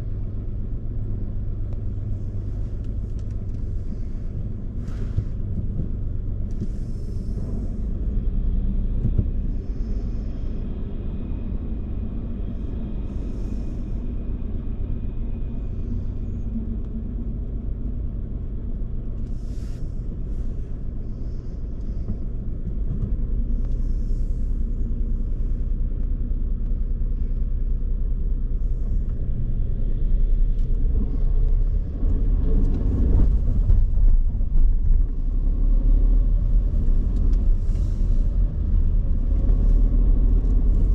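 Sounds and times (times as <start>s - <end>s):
car driving rumble: 0.0s - 40.9s.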